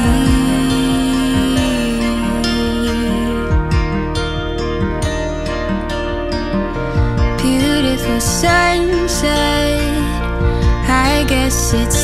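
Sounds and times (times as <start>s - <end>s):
low drum beats: 0.0s - 8.9s, 10.4s - 11.1s.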